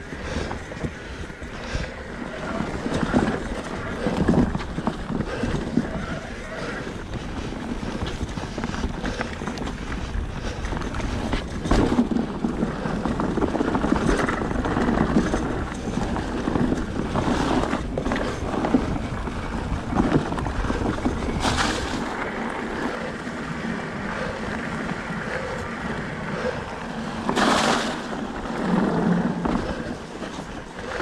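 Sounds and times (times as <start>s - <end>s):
electric mountain bike rattling: 0.0s - 31.0s
wind buffeting microphone: 0.0s - 31.0s.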